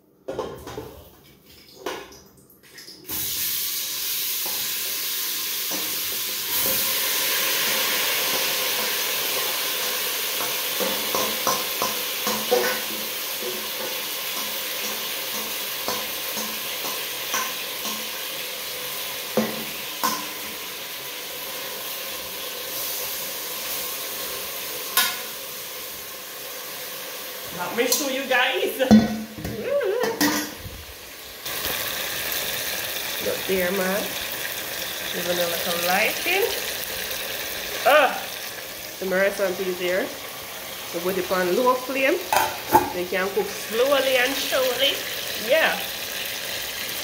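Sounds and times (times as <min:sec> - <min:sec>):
meat sizzling in hot oil: 0:03.1 - 0:47.0.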